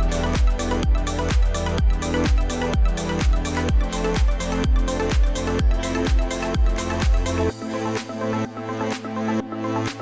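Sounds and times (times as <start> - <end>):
four-on-the-floor kick drum: 0.0 - 8.1.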